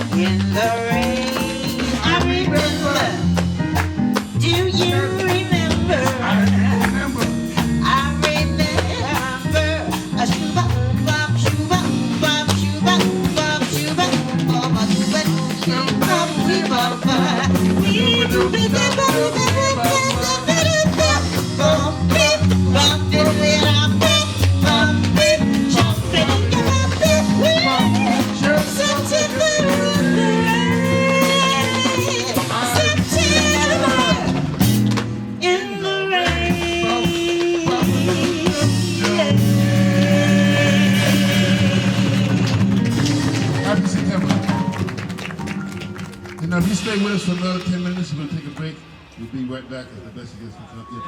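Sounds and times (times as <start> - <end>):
blues jazz band playing: 0.0 - 51.0.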